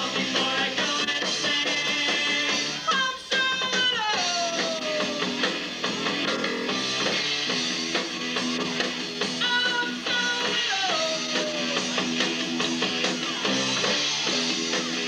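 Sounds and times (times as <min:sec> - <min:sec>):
bass guitar: 0:00.0 - 0:15.0
drums: 0:00.0 - 0:15.0
electric guitar lead with slides: 0:02.2 - 0:15.0.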